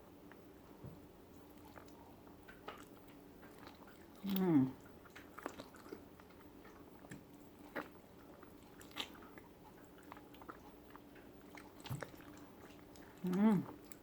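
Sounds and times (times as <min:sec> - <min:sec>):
person chewing food: 0:01.3 - 0:14.0.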